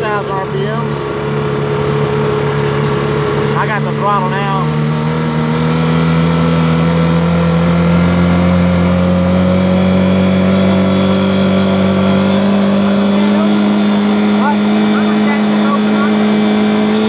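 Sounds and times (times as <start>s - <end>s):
jet ski engine revving: 0.0s - 17.0s.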